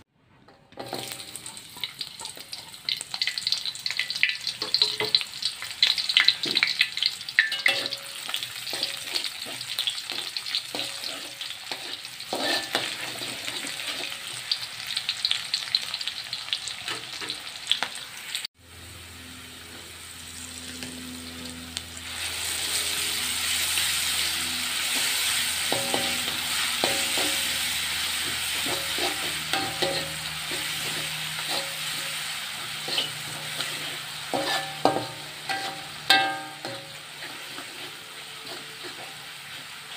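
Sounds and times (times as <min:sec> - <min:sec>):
spatula scraping wok: 0:00.4 - 0:15.0, 0:19.4 - 0:39.9
shallots crackling in hot oil: 0:00.7 - 0:39.9
chilli paste sizzling: 0:00.8 - 0:39.9.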